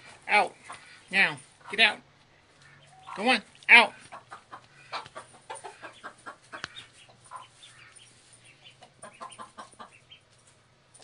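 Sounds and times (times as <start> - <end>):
hen clucking: 0.0 - 10.5.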